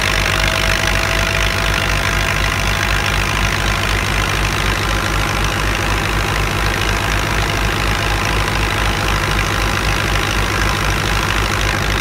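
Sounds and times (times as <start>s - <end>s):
tractor diesel engine throbbing: 0.0s - 12.0s.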